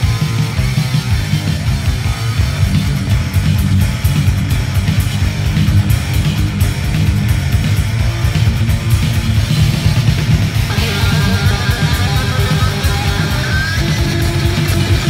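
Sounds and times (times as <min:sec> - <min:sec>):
heavy metal song: 0:00.0 - 0:15.0
rapid drum and cymbal hits: 0:00.0 - 0:15.0.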